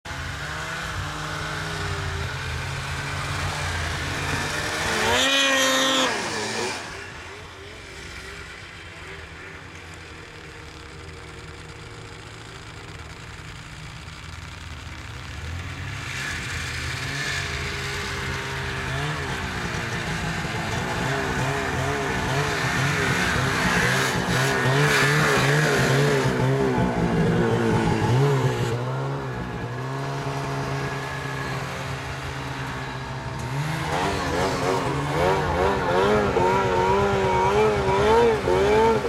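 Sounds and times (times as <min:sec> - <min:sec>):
snowmobile engine revving: 0:00.1 - 0:39.0
snowmobile engines running: 0:00.1 - 0:39.0.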